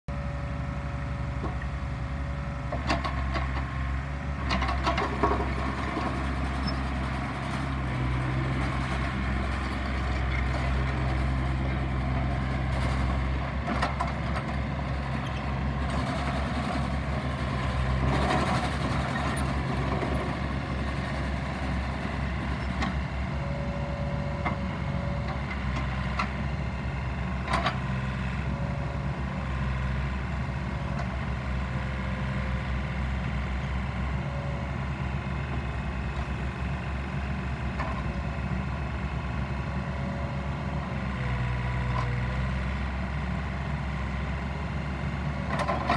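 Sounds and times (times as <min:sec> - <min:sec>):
excavator diesel engine: 0:00.1 - 0:45.9.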